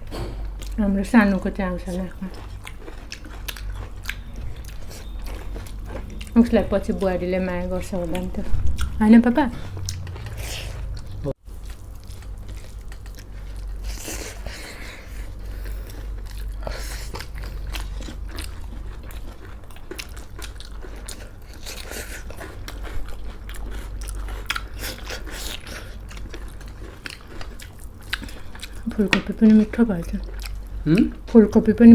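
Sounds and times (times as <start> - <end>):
chewing and crunching food: 0.0 - 31.9
low steady hum: 0.0 - 31.9.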